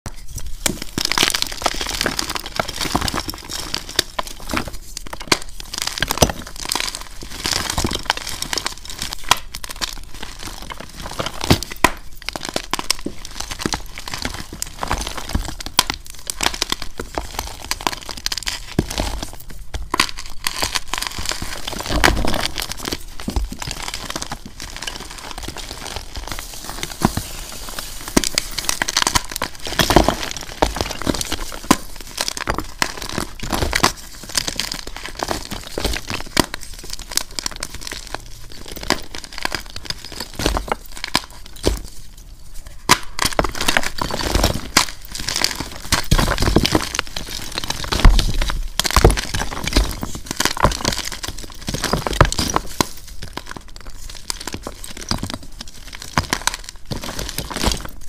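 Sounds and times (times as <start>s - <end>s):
chalk crunching and crackling: 0.1s - 58.0s.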